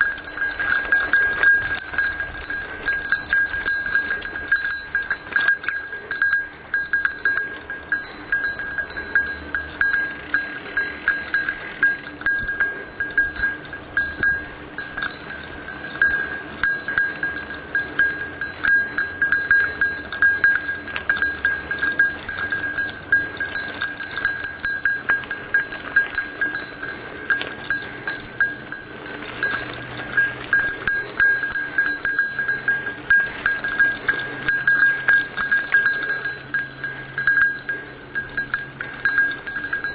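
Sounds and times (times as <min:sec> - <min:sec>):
bicycle bell jingling: 0:00.0 - 0:39.9.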